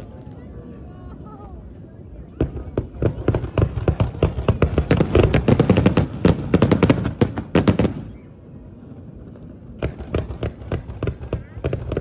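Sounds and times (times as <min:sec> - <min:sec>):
fireworks bangs and crackles: 0:02.3 - 0:12.0.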